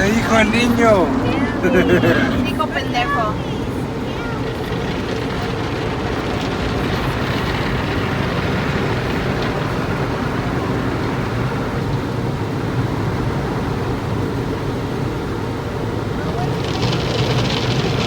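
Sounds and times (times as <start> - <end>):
car wash machinery rumbling: 0.0 - 18.0.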